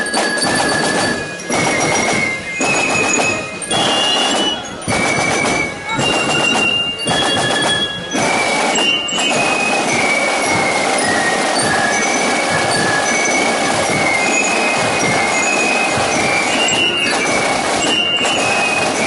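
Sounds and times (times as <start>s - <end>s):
field drums beating: 0.0s - 19.0s
high flute melody: 0.0s - 19.0s.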